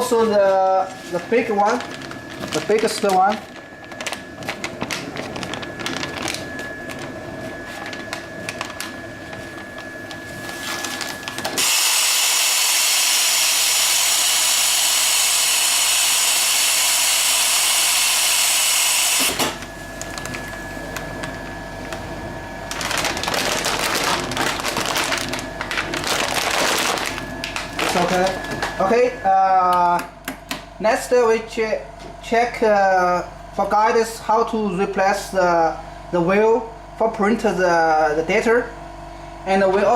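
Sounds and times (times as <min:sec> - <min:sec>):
band sealer running: 0:00.0 - 0:34.8.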